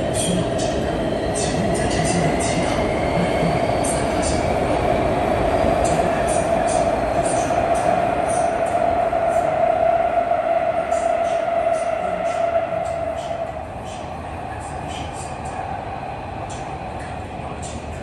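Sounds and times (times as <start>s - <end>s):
subway train rumble and rail noise: 0.0s - 18.0s.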